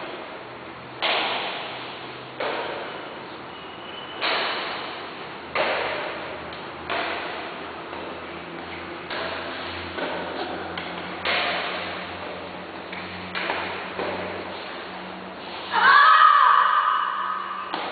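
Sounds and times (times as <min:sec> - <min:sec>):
racket hitting shuttlecock: 0:00.9 - 0:03.4, 0:04.2 - 0:15.8, 0:17.6 - 0:17.9.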